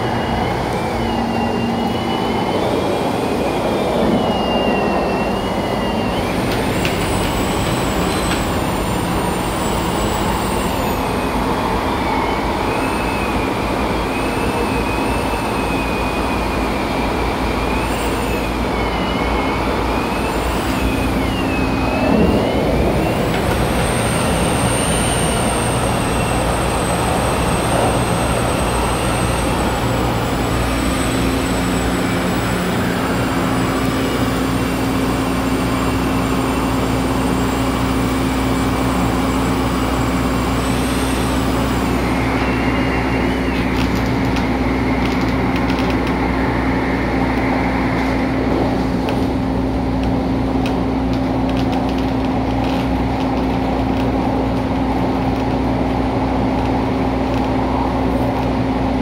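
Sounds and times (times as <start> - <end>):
train electric whine and hum: 0.0 - 59.0
train running noise: 0.0 - 59.0.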